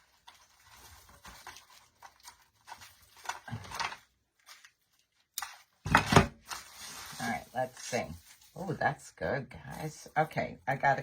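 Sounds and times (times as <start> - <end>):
artificial pine swag rustling: 0.0 - 10.8.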